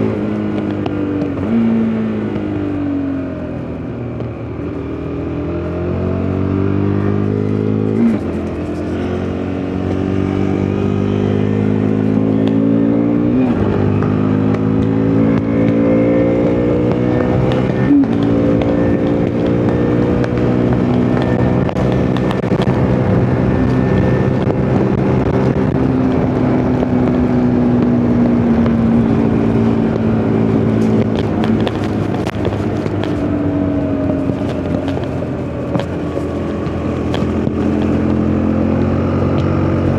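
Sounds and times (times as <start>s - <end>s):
motorcycle engine pulling under load: 0.0s - 39.9s.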